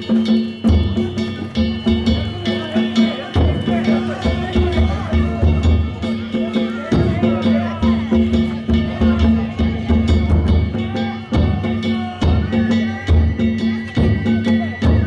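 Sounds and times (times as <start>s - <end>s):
held high tone: 0.0s - 15.0s
taiko drum beating: 0.0s - 15.0s.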